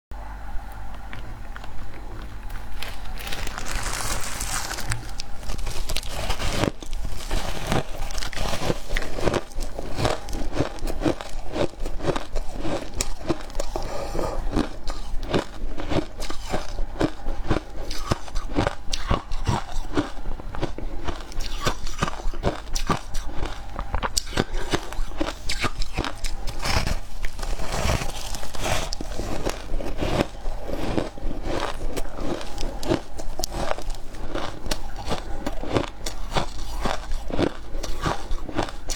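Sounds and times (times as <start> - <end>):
crunching of shaved ice: 2.5 - 38.9.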